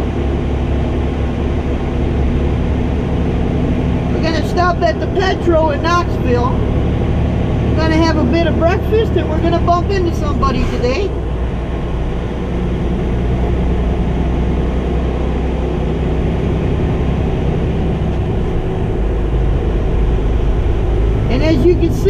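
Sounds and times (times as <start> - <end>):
truck engine drone: 0.0 - 22.0.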